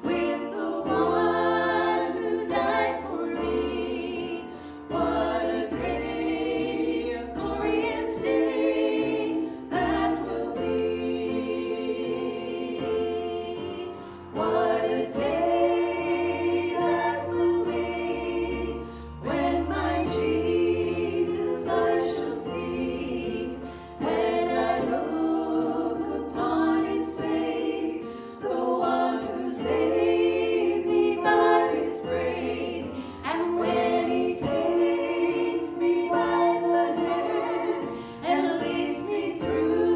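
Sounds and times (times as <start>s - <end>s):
group singing gospel song: 0.0s - 39.9s.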